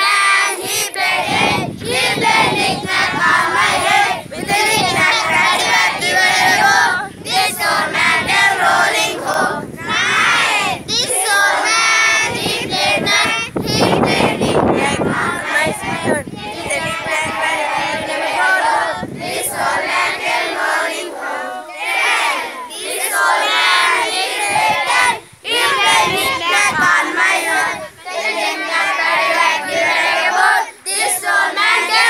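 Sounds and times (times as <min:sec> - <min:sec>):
children chanting in unison: 0:00.0 - 0:32.0.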